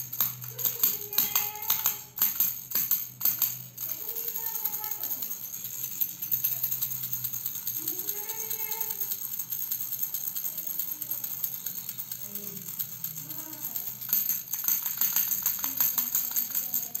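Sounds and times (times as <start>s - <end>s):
baby rattle shaken: 0.0s - 17.0s.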